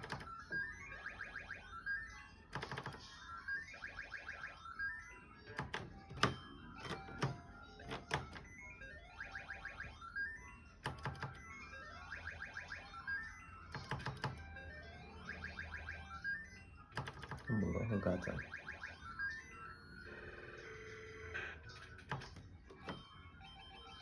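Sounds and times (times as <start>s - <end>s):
slot machine chime notes: 0.0s - 24.0s.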